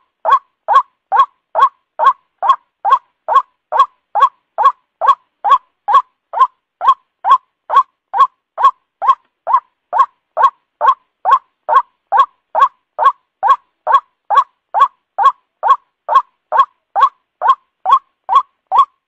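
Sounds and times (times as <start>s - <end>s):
waterhen calling: 0.2s - 19.0s.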